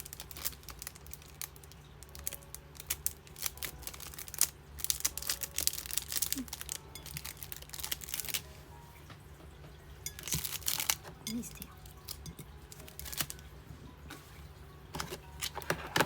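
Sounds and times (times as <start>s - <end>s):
plastic packaging crinkling: 0.0s - 8.7s, 10.0s - 16.0s.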